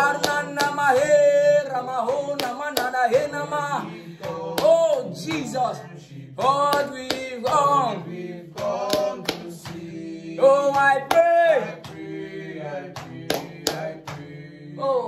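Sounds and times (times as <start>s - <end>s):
hand claps: 0.0s - 14.4s
men singing and chanting: 0.0s - 15.0s.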